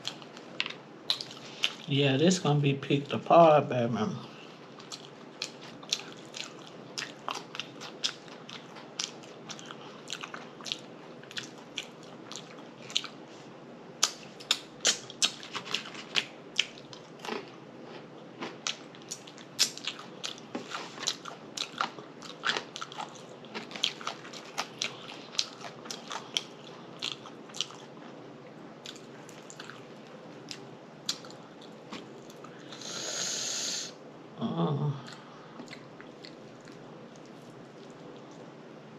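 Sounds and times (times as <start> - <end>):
chewing and lip smacking: 0.0 - 1.9, 4.7 - 13.2, 14.0 - 28.2, 28.8 - 32.7, 35.0 - 38.4.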